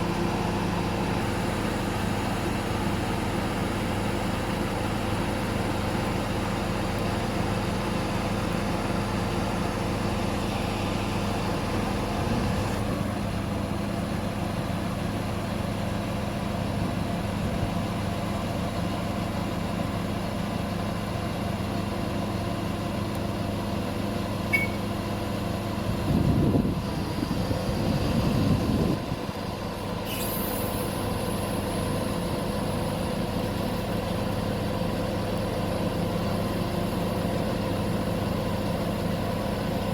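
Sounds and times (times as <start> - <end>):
crane diesel engine running: 0.0 - 39.9.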